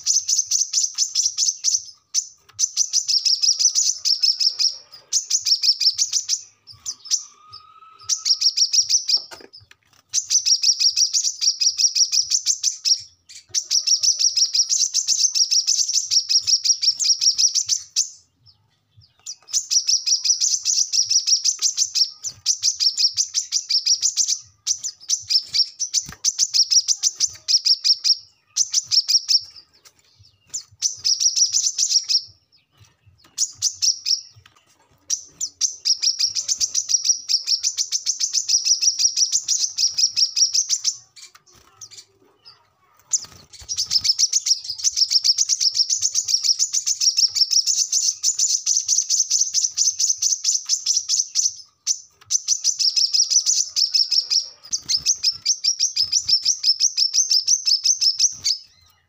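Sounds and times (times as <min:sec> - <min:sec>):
sunbird chattering song: 0:00.0 - 0:59.0.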